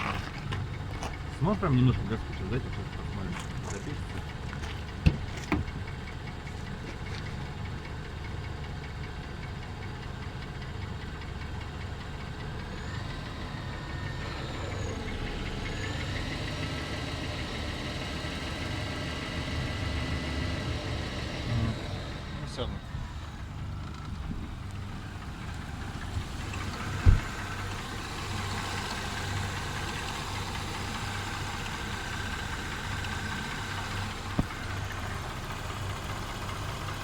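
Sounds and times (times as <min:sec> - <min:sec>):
car engine knocking: 0:00.0 - 0:37.0.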